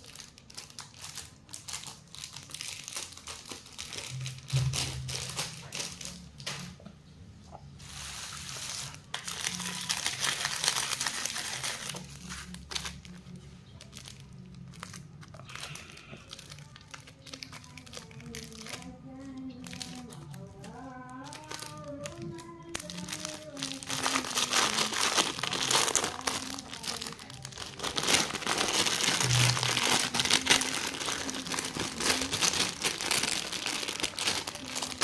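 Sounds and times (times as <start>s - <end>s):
candy wrapper crinkling: 0.0s - 6.6s, 7.9s - 35.0s.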